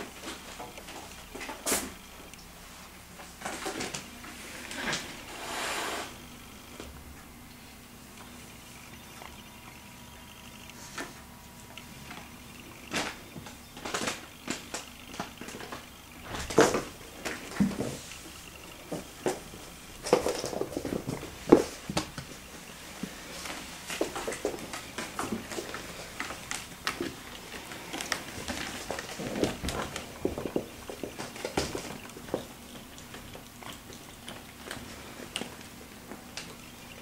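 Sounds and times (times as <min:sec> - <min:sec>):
kittens scuffling: 0:00.0 - 0:37.0.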